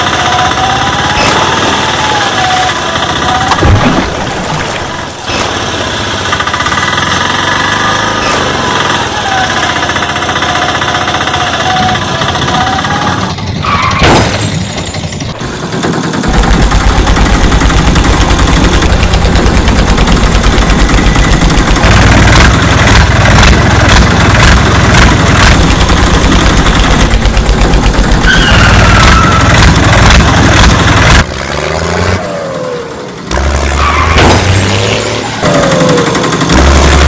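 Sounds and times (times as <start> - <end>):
diesel tractor engine chugging: 0.0 - 37.0.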